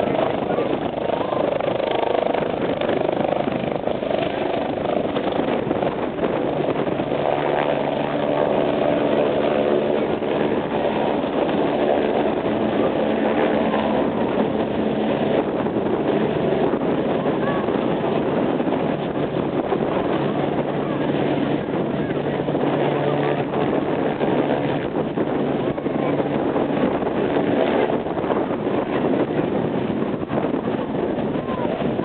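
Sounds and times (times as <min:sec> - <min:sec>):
helicopter turbine and rotor: 0:00.0 - 0:32.0
steady engine tones: 0:00.0 - 0:32.0.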